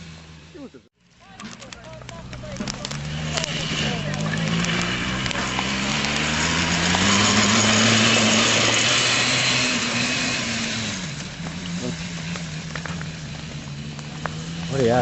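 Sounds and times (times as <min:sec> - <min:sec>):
two-stroke go-kart engine: 0:00.0 - 0:15.0.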